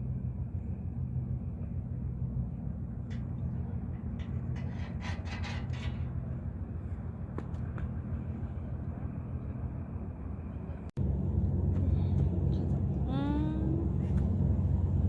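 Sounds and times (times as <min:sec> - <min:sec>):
car engine and tyres rumble: 0:00.0 - 0:15.0.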